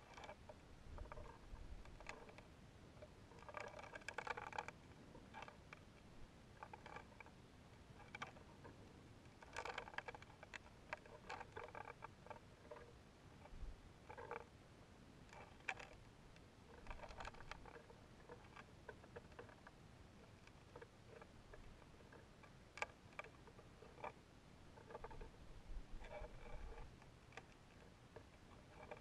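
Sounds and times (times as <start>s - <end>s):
faint clicks and creaks: 0.0s - 29.0s.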